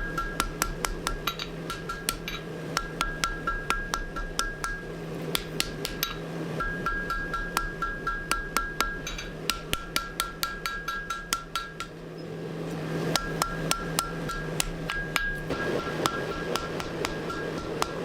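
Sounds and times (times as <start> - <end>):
hammer striking steel on anvil: 0.0 - 12.0, 13.1 - 18.0
steady low hum: 0.0 - 18.0.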